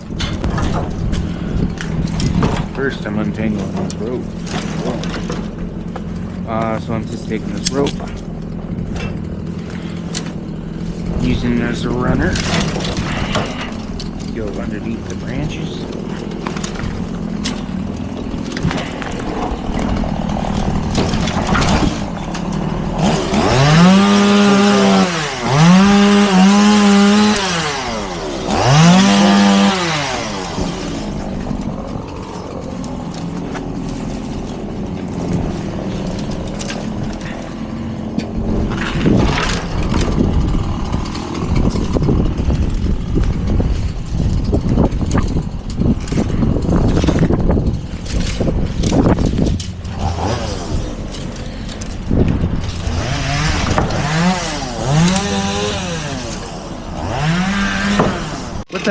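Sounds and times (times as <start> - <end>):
chainsaw revving: 3.1 - 44.9, 45.5 - 58.9.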